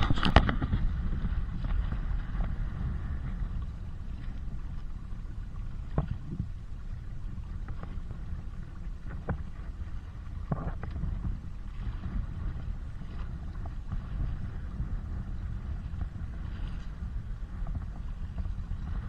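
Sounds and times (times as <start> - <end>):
waves slapping against boat: 0.0 - 19.0
wind rumbling on microphone: 0.0 - 19.0.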